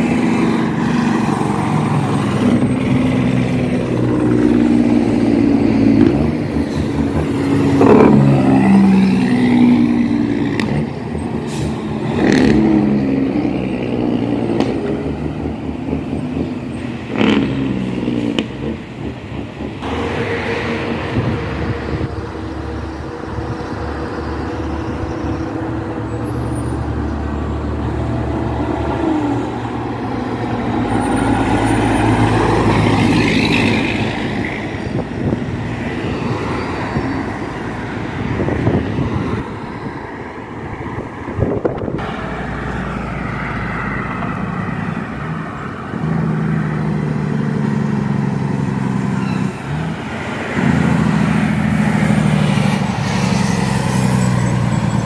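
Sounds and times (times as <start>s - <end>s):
semi-truck diesel engine: 0.0s - 55.0s
trucks and cars passing: 0.0s - 55.0s.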